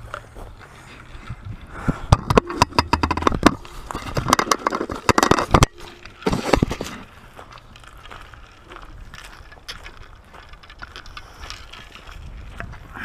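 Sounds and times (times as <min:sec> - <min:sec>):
twigs and leaves crackling underfoot: 0:00.0 - 0:13.0.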